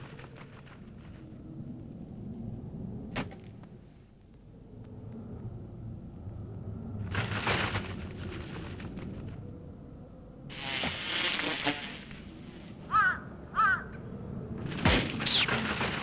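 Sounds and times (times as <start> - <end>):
low wind-like rumble: 0.0 - 11.2, 11.8 - 16.0.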